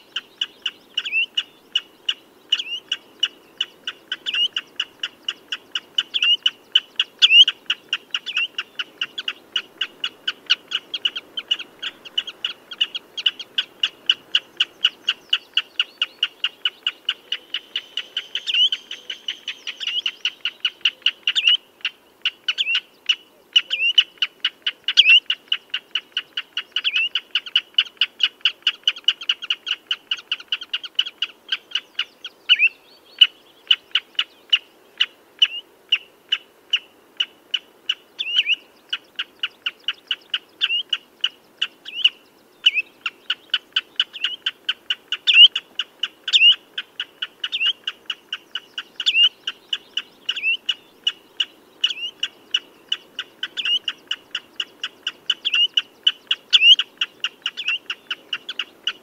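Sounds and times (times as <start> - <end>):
bird piping calls: 0.0 - 59.0.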